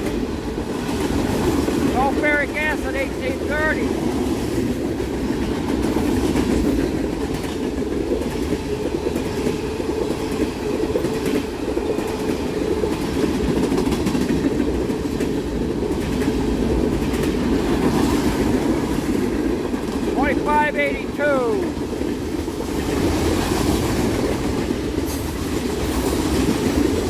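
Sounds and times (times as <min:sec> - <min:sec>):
wheels clickety-clack on rail joints: 0:00.0 - 0:20.2, 0:21.7 - 0:27.0
freight train rumbling past: 0:00.0 - 0:27.0.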